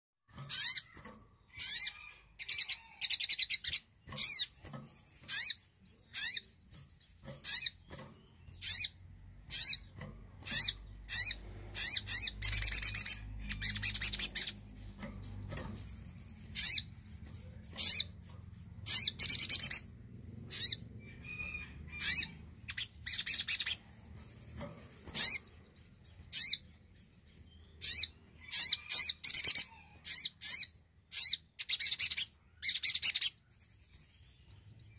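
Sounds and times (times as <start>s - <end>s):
bird trilling chirps: 0.2s - 34.9s.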